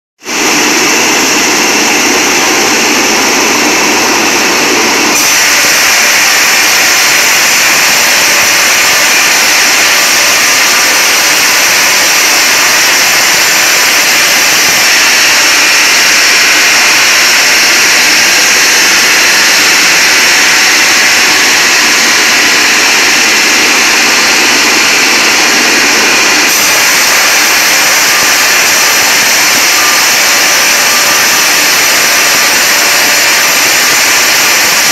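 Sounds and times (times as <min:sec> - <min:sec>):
sawing machine cutting log: 0:00.3 - 0:34.9.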